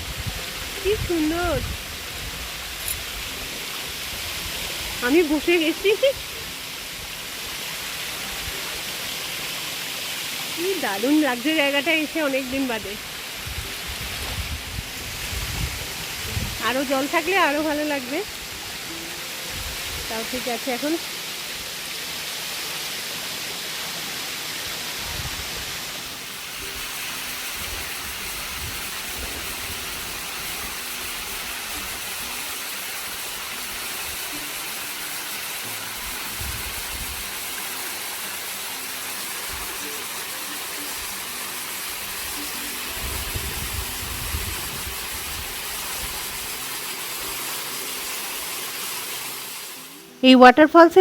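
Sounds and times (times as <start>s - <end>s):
waterfall rushing: 0.0s - 50.2s.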